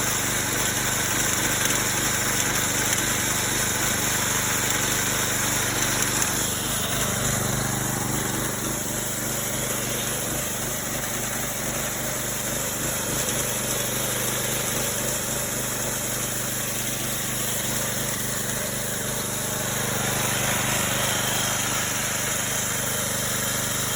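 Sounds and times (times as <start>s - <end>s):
chainsaw running steadily: 0.0s - 23.9s.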